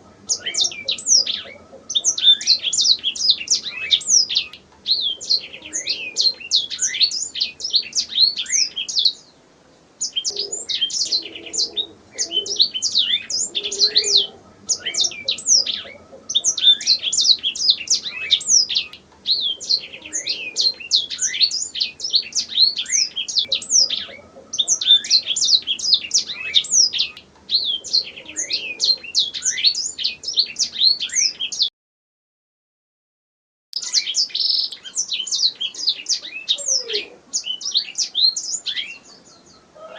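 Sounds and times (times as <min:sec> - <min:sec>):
canary singing trills: 0:00.0 - 0:09.4, 0:10.0 - 0:31.7, 0:33.8 - 0:39.9.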